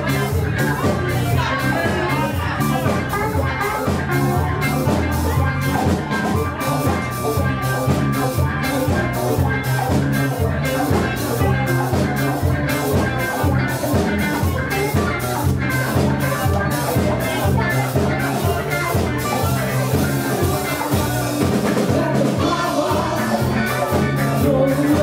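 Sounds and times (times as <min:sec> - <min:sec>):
funk band playing dance groove: 0:00.0 - 0:25.0.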